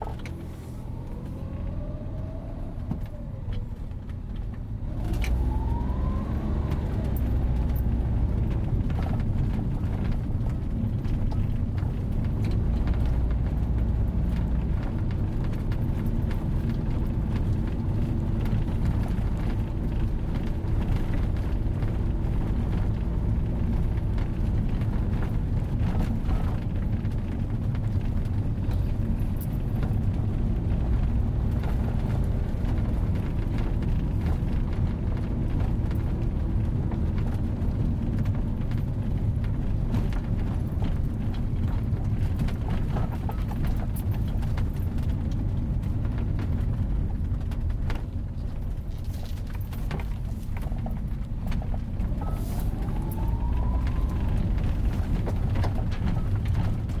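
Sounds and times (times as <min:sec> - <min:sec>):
car engine accelerating: 0:00.0 - 0:57.0
road rumble: 0:00.0 - 0:57.0.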